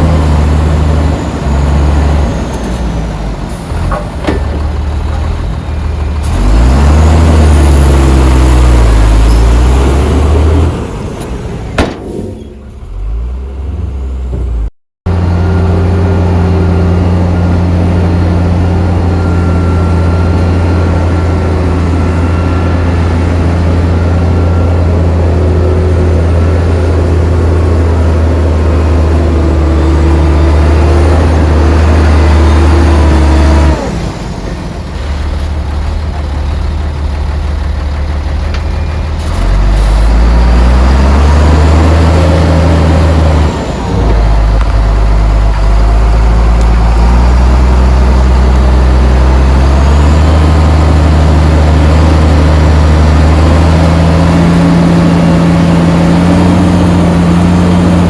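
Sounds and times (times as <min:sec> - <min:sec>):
diesel engine revving: 0:00.0 - 0:58.0
low diesel drone: 0:00.0 - 0:58.0.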